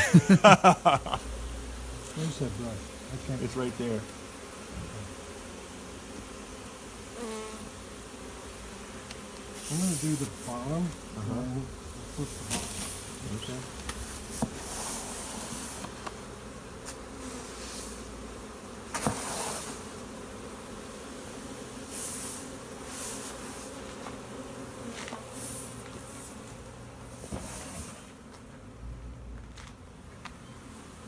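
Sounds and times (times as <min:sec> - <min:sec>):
bee swarm buzzing: 0:00.0 - 0:28.8.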